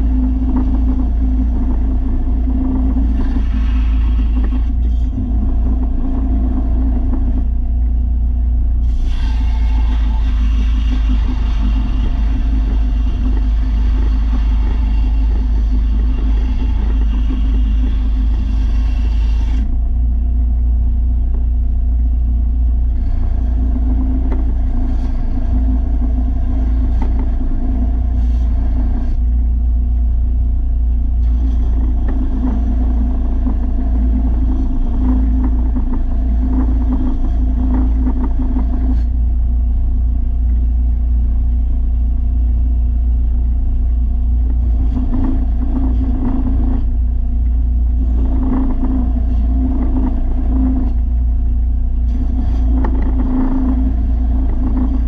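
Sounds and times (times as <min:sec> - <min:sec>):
riding mower engine rumbling: 0:00.0 - 0:55.0.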